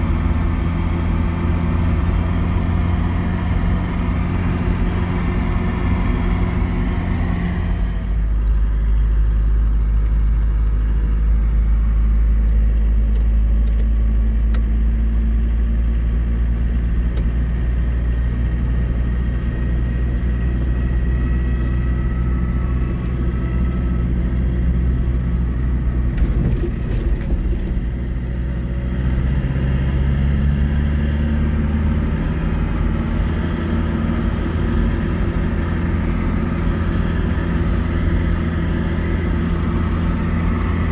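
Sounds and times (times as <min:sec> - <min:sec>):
vehicle engine and road rumble: 0:00.0 - 0:40.9.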